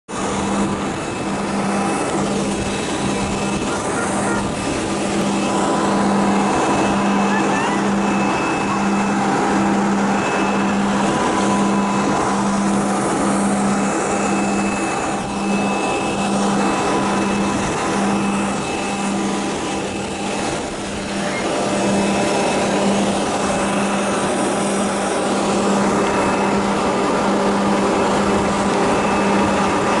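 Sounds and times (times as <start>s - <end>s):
ground power unit engine drone: 0.0s - 30.0s.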